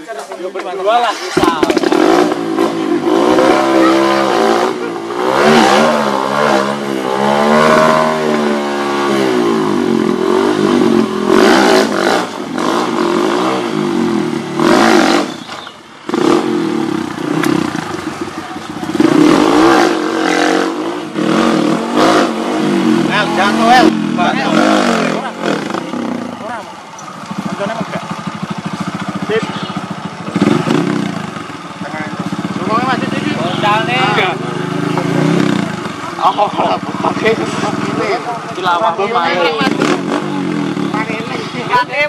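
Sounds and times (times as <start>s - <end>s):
dirt bike engine revving: 1.0s - 42.0s.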